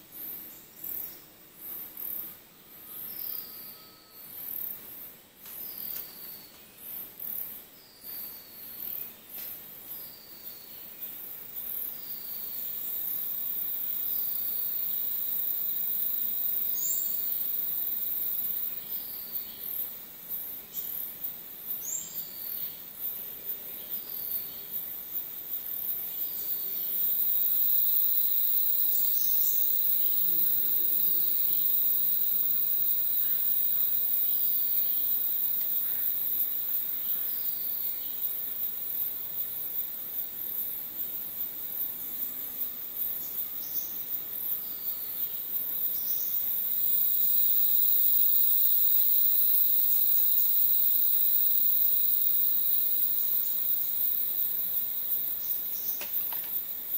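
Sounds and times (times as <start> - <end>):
insect chorus shrilling: 0.2 - 4.8, 9.9 - 56.9.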